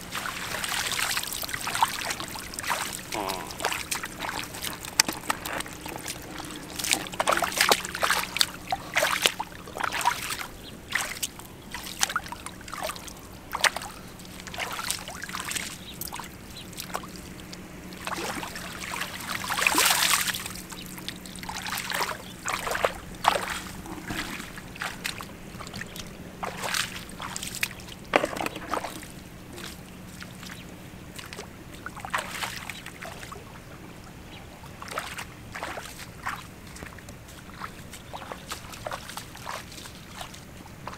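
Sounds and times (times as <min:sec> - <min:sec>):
net splashing through muddy water: 0:00.0 - 0:17.4, 0:18.0 - 0:33.6, 0:34.7 - 0:40.9
bare feet wading in water: 0:00.0 - 0:40.9.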